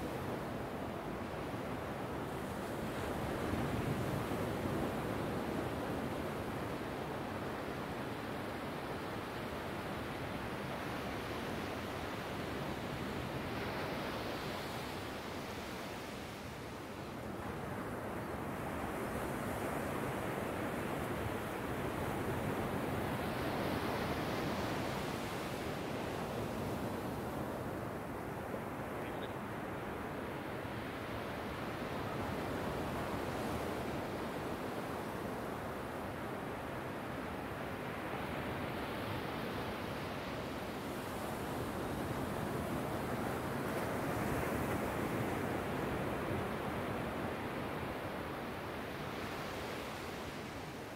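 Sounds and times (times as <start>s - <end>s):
waves washing up a beach: 0.0s - 50.9s.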